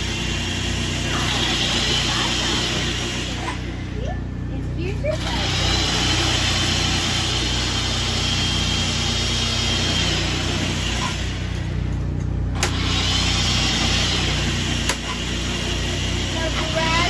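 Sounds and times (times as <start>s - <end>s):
hissing whir: 0.0s - 17.0s
low engine-like hum: 0.0s - 17.0s.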